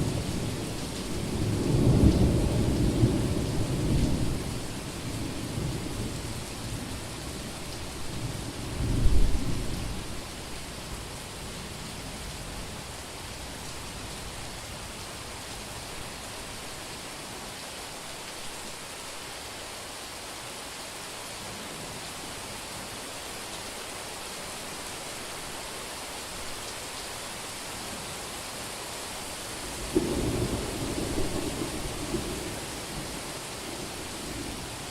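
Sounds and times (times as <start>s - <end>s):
rain falling on a street: 0.0s - 34.9s.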